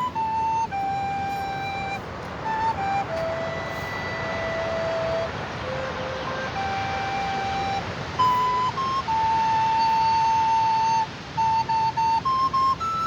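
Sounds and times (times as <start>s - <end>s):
flute melody: 0.0s - 13.0s
steady hiss: 0.0s - 13.0s.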